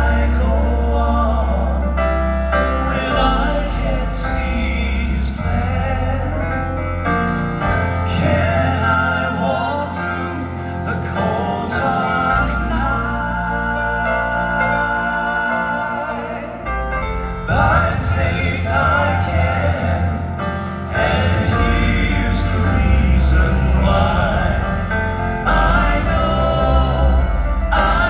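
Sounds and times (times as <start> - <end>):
male quartet singing in harmony: 0.0 - 28.0.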